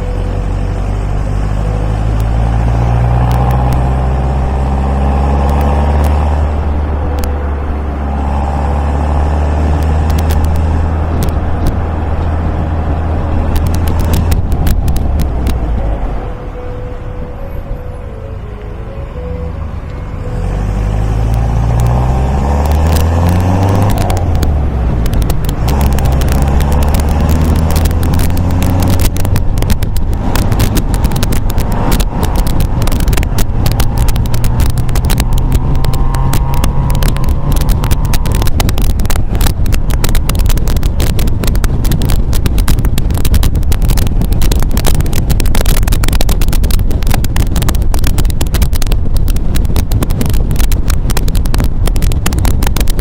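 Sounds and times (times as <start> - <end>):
car engine accelerating: 0.0 - 53.0
wind buffeting microphone: 0.0 - 53.0.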